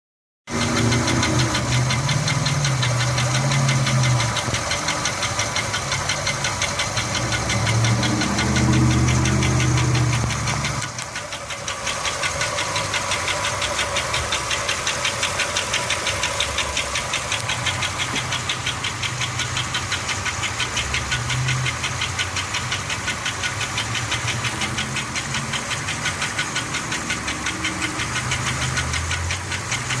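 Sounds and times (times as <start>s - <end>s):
engine running with fast knocking: 0.5s - 30.0s.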